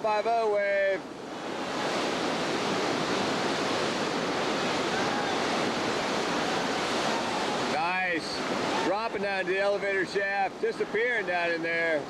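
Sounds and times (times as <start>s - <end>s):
whitewater rushing roar: 0.0s - 12.0s.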